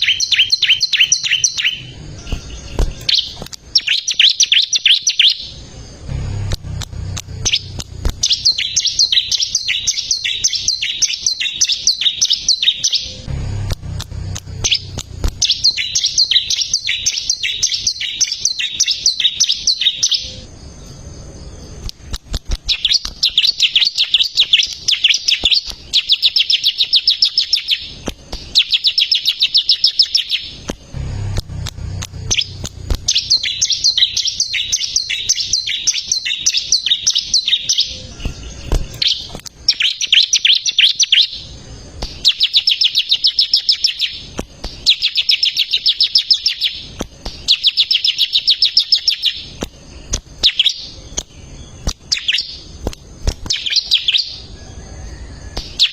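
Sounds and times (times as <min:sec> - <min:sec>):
bird singing high chirps: 0:00.0 - 0:52.8, 0:53.4 - 0:55.9.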